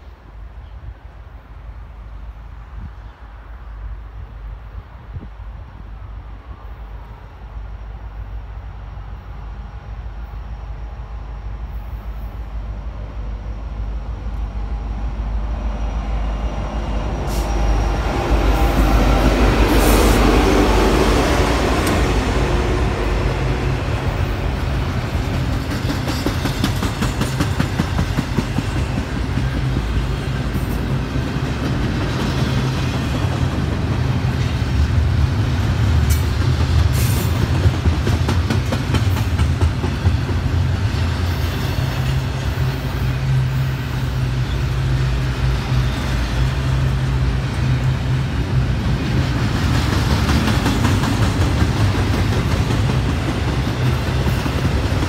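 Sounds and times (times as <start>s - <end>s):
diesel locomotives passing: 0.0s - 55.0s.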